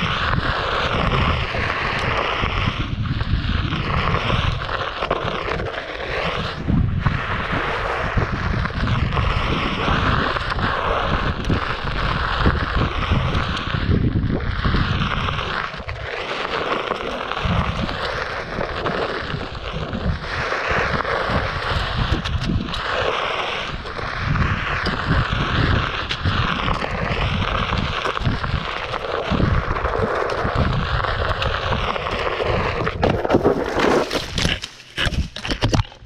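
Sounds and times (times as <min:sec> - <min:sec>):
wind buffeting microphone: 0:00.0 - 0:16.2, 0:17.2 - 0:35.9.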